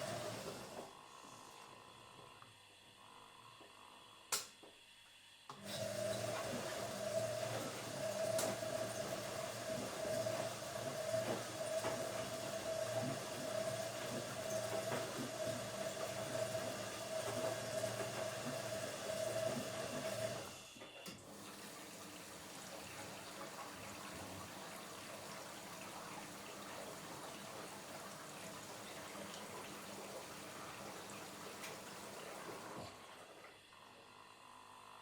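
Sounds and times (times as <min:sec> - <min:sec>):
washing machine motor churning: 0:00.0 - 0:04.2, 0:05.5 - 0:35.0.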